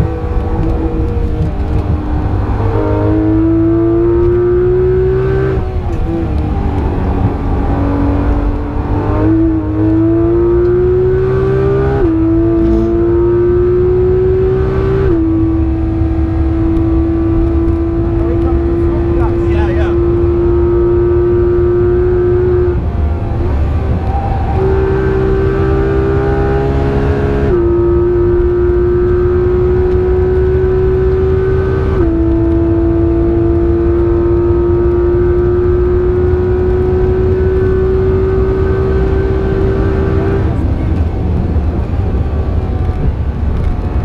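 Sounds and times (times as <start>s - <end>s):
car engine revving high: 0.0s - 44.0s.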